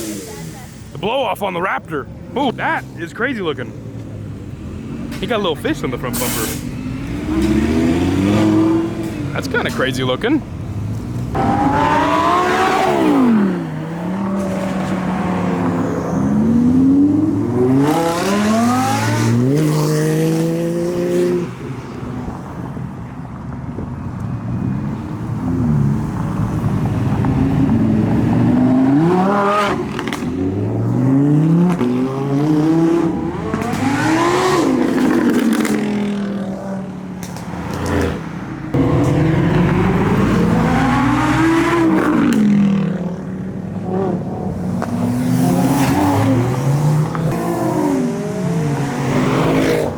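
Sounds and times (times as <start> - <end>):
cars accelerating hard: 2.4 - 23.0, 24.4 - 49.9.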